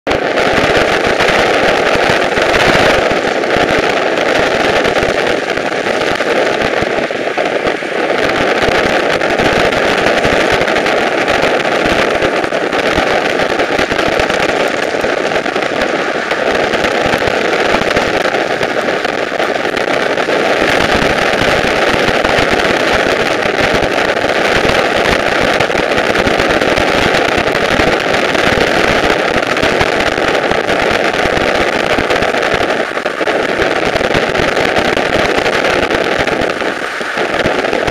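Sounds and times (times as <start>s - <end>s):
crackling and rattling: 0.1s - 37.9s.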